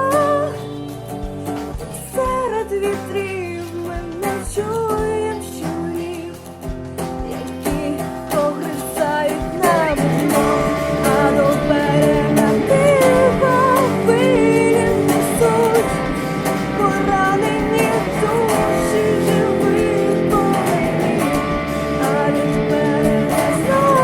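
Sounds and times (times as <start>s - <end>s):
girl singing with vibrato: 0.0s - 24.0s
strummed guitar: 0.0s - 24.0s.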